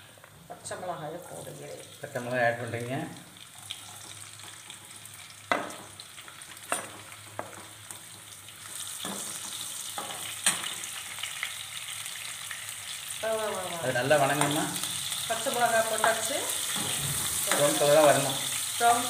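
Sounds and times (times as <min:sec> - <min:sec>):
chillies sizzling in hot oil: 0:00.0 - 0:19.0.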